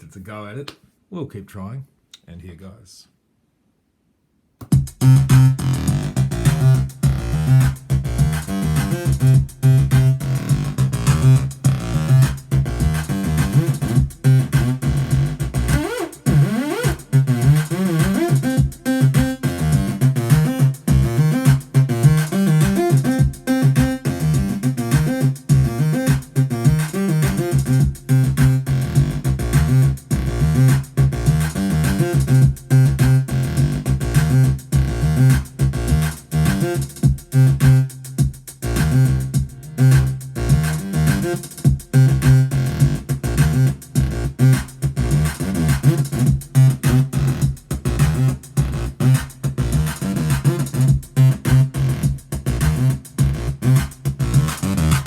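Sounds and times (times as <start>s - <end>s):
acid synthesizer bass sequence: 4.6s - 55.0s
drum machine beat: 4.6s - 55.0s.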